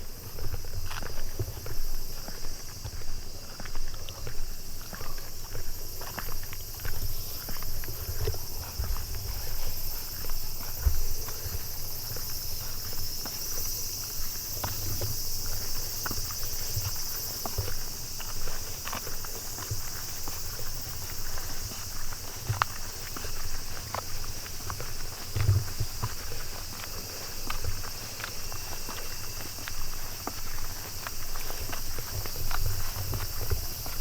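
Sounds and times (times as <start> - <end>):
footsteps walking: 0.0 - 34.0
high-pitched insect chorus: 0.0 - 34.0.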